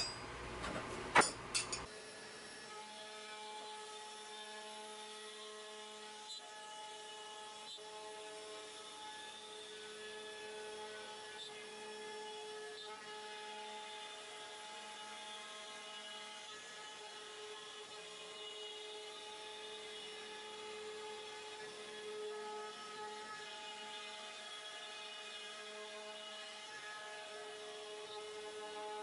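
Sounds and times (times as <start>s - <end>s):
router spindle whining cutting wood: 1.9s - 29.0s.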